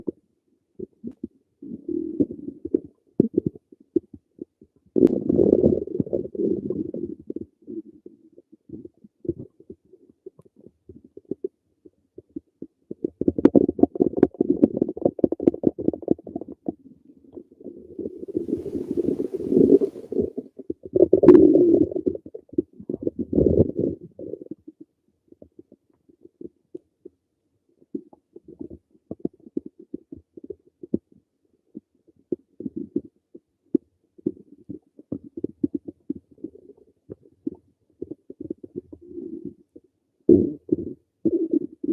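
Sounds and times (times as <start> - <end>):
stomach gurgling: 0.0 - 41.9.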